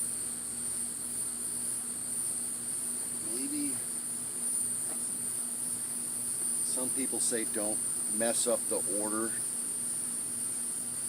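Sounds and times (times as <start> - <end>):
high-pitched insect trill: 0.0 - 11.0
honey bees humming: 0.0 - 11.0.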